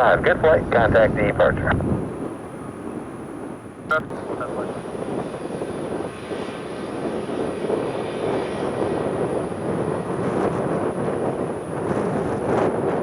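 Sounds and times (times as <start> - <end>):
jet airliner engines rushing: 0.0 - 13.0.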